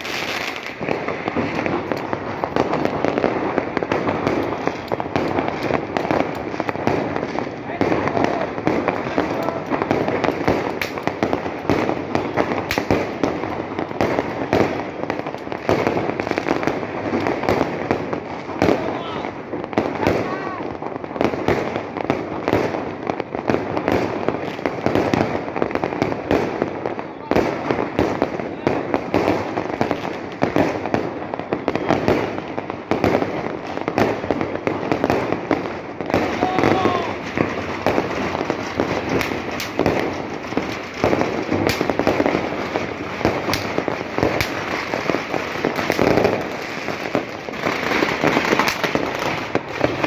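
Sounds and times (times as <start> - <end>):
fireworks cracks and bangs: 0.0 - 50.0.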